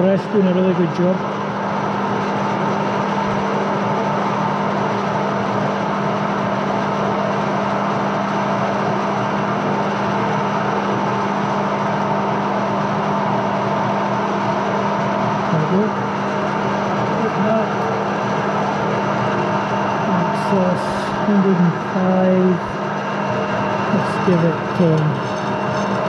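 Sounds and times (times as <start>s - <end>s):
metal lathe humming: 0.0s - 26.0s.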